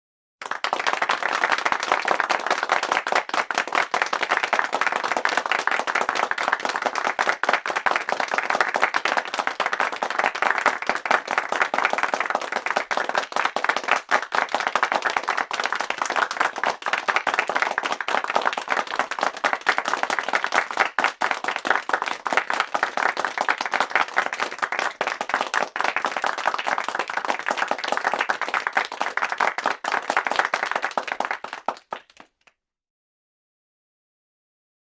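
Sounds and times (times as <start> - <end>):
crowd applauding: 0.4 - 32.5.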